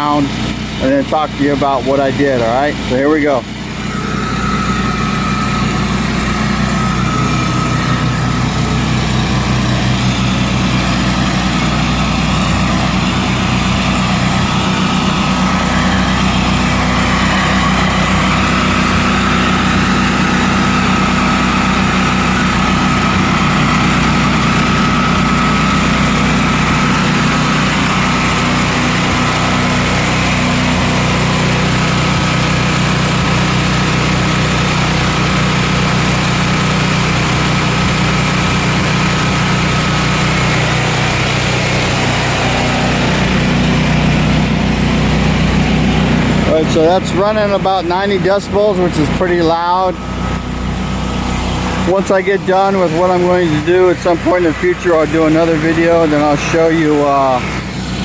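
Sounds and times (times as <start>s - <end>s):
high whine: 0.0s - 58.0s
portable generators droning: 0.0s - 58.0s.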